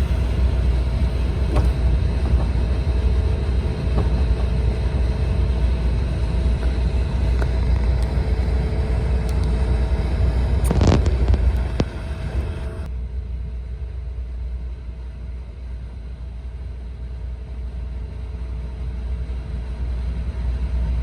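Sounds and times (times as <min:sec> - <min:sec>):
train cabin rumble: 0:00.0 - 0:21.0.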